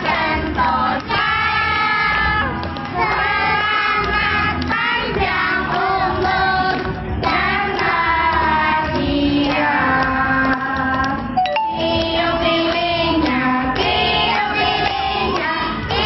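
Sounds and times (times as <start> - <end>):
children singing: 0.0 - 2.4, 3.0 - 10.8, 11.8 - 16.0
musical accompaniment: 0.0 - 16.0.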